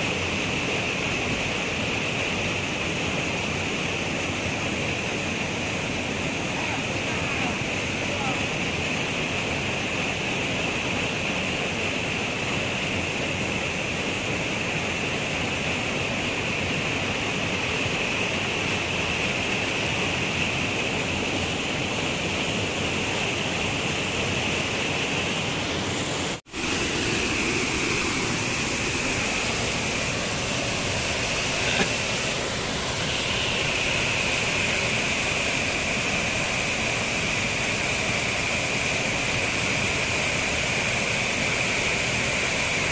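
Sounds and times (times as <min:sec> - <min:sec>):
waterfall pouring into river pool: 0:00.0 - 0:42.9.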